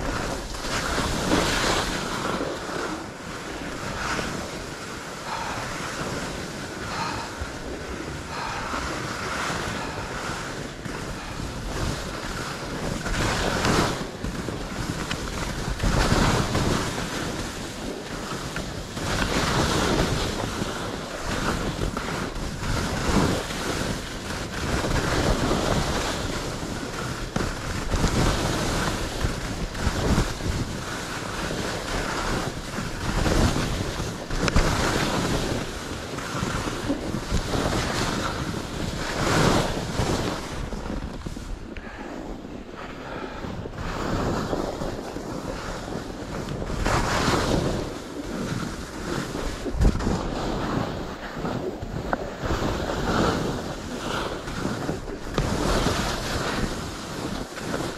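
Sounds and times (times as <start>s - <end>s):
skis scraping over snow: 0.0s - 57.9s
wind rushing over microphone: 0.0s - 57.9s.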